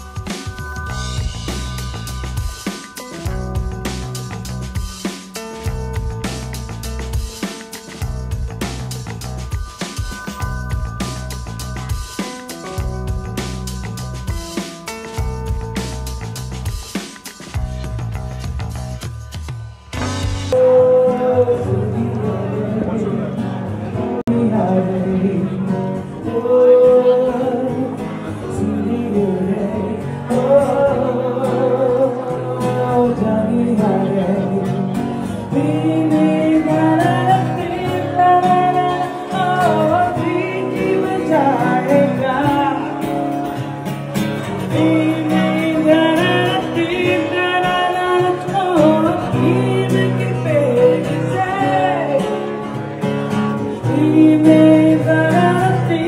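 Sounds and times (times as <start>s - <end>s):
song with singing voice: 0.0s - 56.0s.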